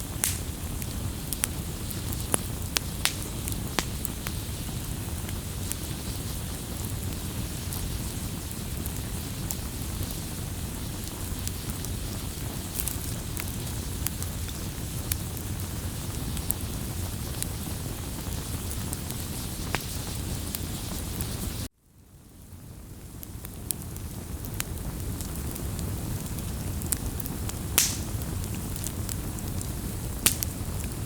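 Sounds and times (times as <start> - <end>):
fire popping and snapping: 0.0 - 21.7, 22.3 - 31.0
campfire burning: 0.0 - 31.0.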